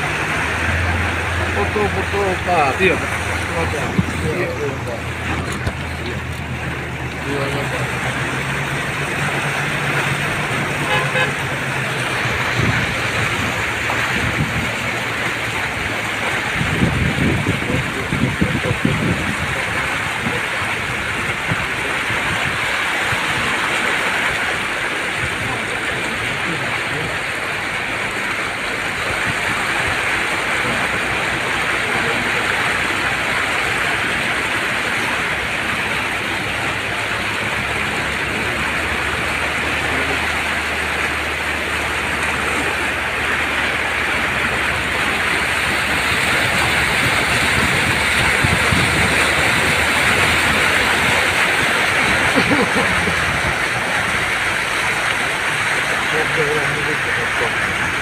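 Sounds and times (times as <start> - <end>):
car engine: 0.0 - 58.0
low rumbling and bumps: 0.0 - 58.0
water rushing around car: 0.0 - 58.0.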